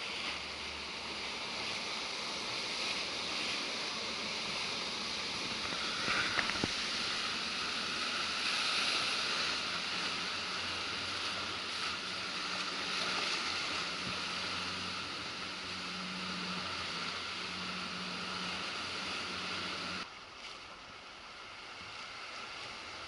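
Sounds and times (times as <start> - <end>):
boat engine humming: 0.0 - 23.0
churning water rushing: 0.0 - 23.0
water lapping: 0.0 - 23.0.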